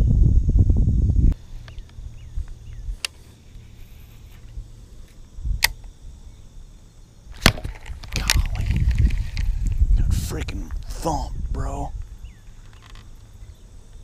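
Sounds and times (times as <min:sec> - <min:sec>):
wind rumble on microphone: 0:00.0 - 0:06.3, 0:07.3 - 0:14.0.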